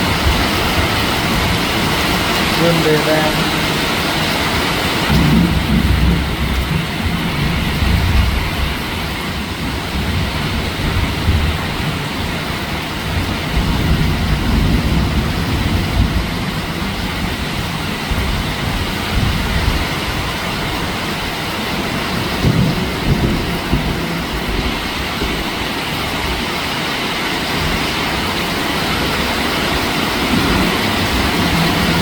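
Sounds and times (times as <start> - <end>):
distant thunder rumble: 0.0 - 32.0
heavy rain: 0.0 - 32.0.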